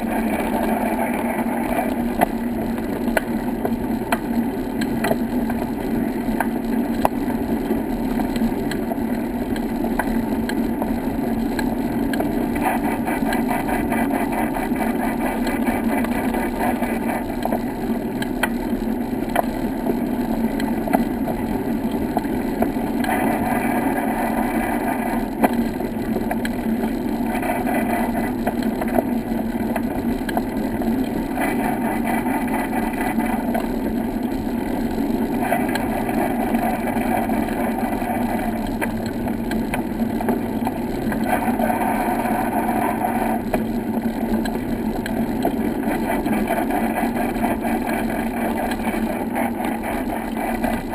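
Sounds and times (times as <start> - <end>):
wheels rumbling on brick path: 0.0 - 50.9.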